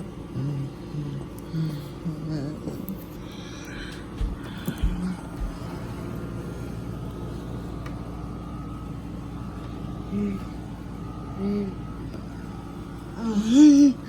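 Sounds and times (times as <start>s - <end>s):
faint steady whine: 0.0s - 14.0s
low engine rumble: 0.0s - 14.0s.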